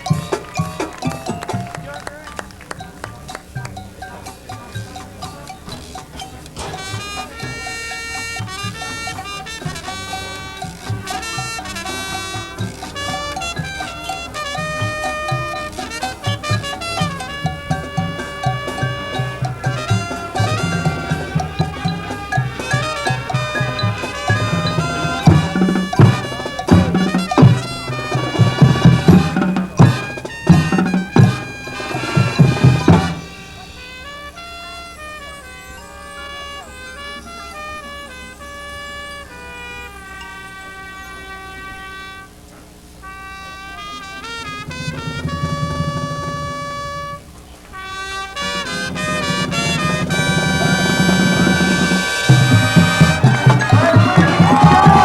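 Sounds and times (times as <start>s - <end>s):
drums and percussion hits: 0.0s - 34.4s, 43.8s - 55.0s
brass and woodwind chords: 0.0s - 55.0s
marching band playing: 0.0s - 55.0s.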